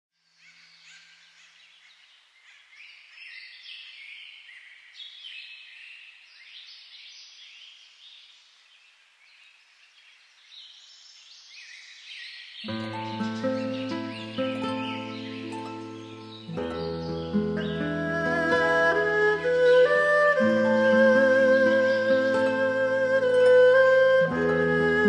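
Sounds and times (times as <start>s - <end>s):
small birds chirping: 0.2s - 24.3s.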